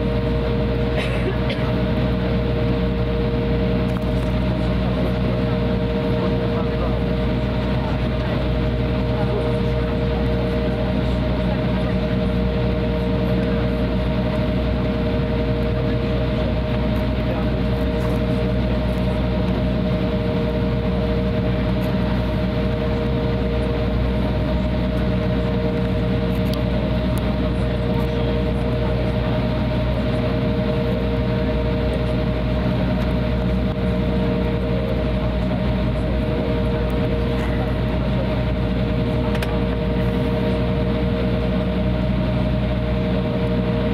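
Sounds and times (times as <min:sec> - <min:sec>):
jet engines humming: 0:00.0 - 0:43.9.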